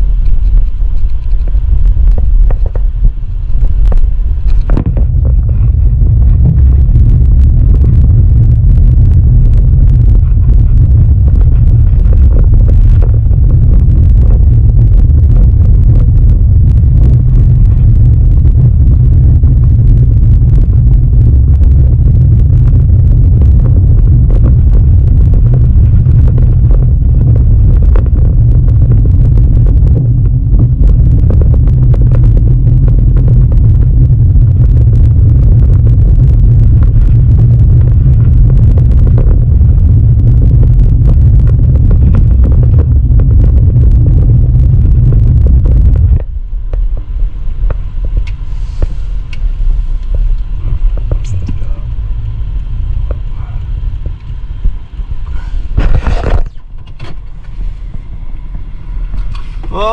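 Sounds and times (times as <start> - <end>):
car driving over snowy road: 0.0 - 54.9.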